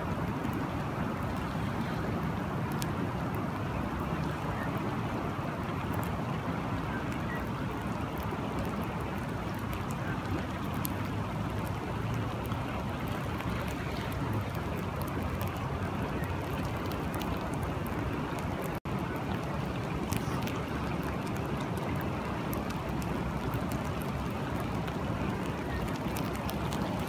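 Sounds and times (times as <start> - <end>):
river water running: 0.0 - 27.0
steady rain: 0.0 - 27.0.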